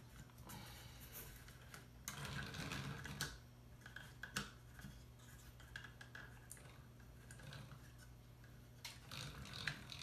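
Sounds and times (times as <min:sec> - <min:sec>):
clicks and rubbing of wooden parts: 0:01.2 - 0:10.0.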